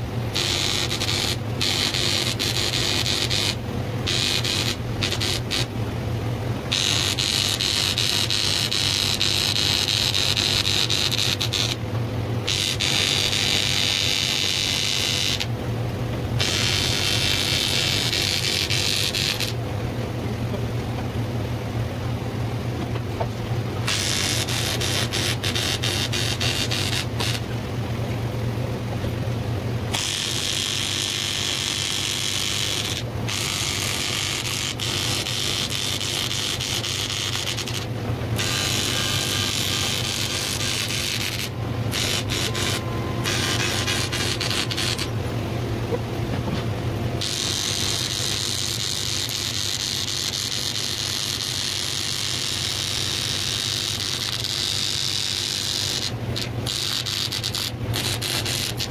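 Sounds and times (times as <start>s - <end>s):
welding arc hissing and crackling: 0.0s - 5.8s, 6.4s - 15.6s, 16.3s - 19.6s, 23.8s - 27.5s, 29.9s - 45.9s, 47.1s - 58.9s
steady low hum: 0.0s - 54.7s.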